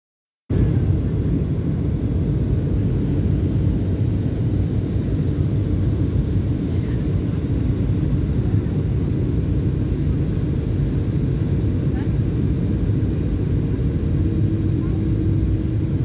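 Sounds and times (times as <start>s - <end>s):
jet airliner low rumble: 0.5s - 16.0s.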